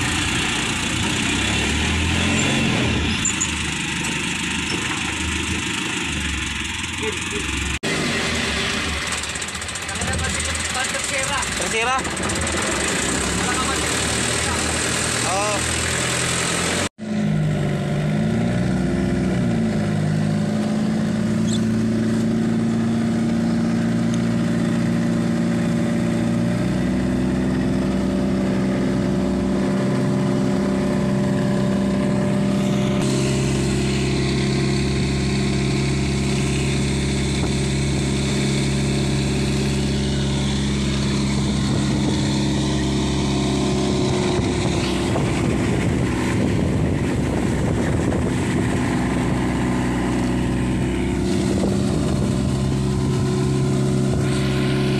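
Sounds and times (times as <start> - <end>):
diesel boat engine running: 0.0 - 54.9
water rushing along hull: 8.1 - 16.9, 18.4 - 54.9.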